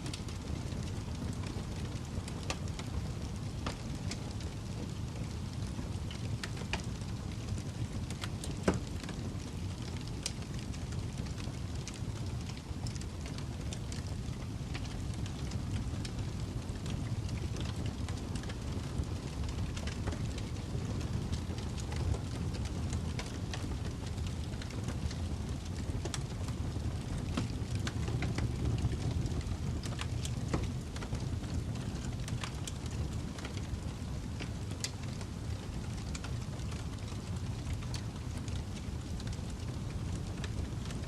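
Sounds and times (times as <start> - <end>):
fire crackling and popping: 0.0 - 41.0
low rumble of flames: 0.0 - 41.0.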